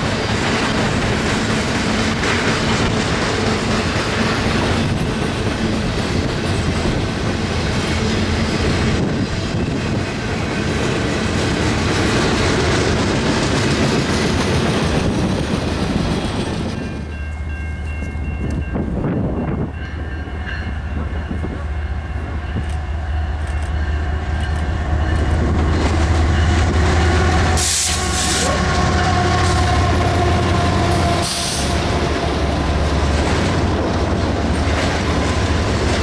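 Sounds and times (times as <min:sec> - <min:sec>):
train wheels clacking on rails: 0:00.0 - 0:36.0.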